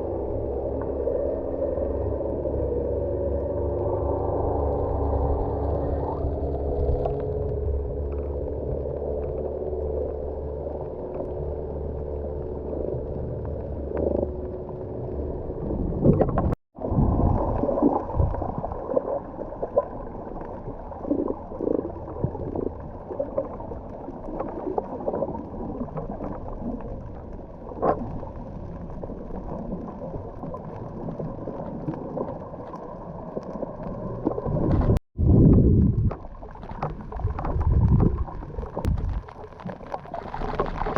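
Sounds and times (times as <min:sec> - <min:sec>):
low underwater hum with tones: 0:00.0 - 0:40.9
water sloshing and bubbling: 0:00.0 - 0:40.9.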